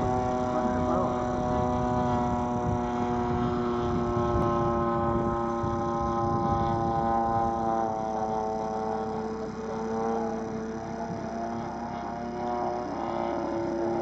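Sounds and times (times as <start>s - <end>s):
model airplane engine drone: 0.0s - 14.0s.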